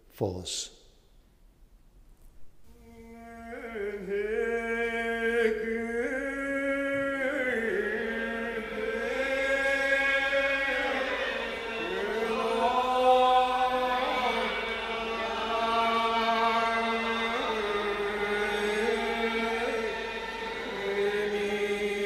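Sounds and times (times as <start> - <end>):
unaccompanied psalm singing: 2.7 - 22.0.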